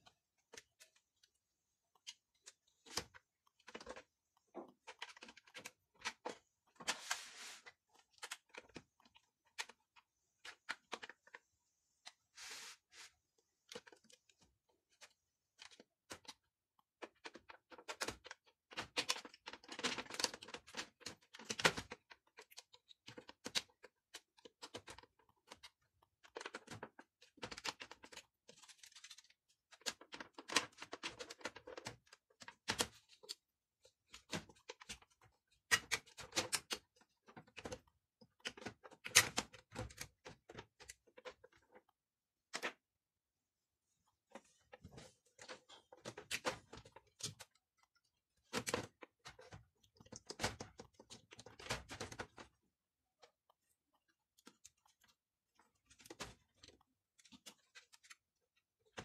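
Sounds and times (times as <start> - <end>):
plastic parts clicking and rattling: 0.0 - 12.3, 13.5 - 42.9, 43.8 - 59.0.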